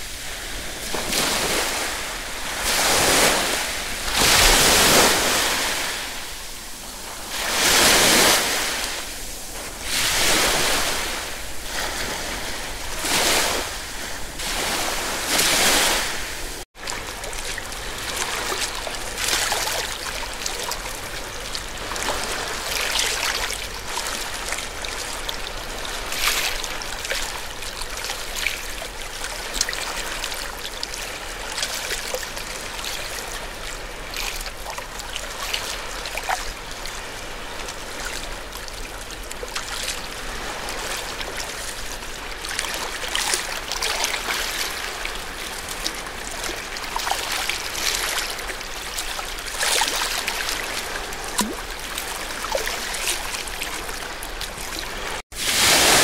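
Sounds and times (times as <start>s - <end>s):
ocean surf washing ashore: 0.0s - 56.0s.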